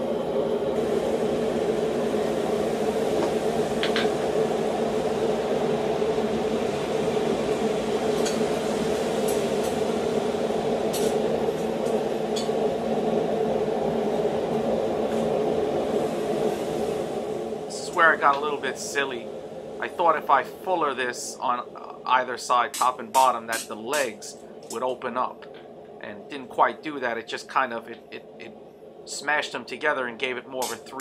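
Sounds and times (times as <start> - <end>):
forge humming: 0.0 - 31.0.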